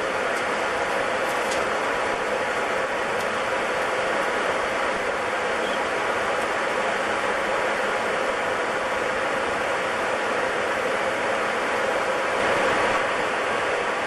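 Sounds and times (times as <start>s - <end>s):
jet airliner cabin noise: 0.0s - 14.0s.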